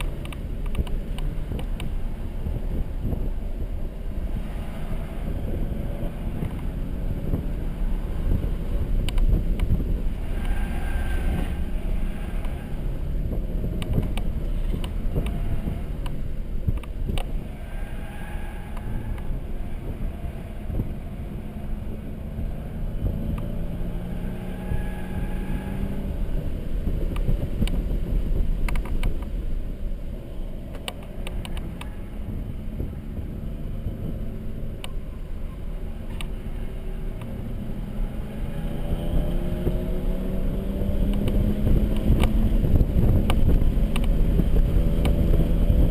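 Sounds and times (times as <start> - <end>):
car engine accelerating: 0.0 - 45.9
road noise: 0.0 - 45.9.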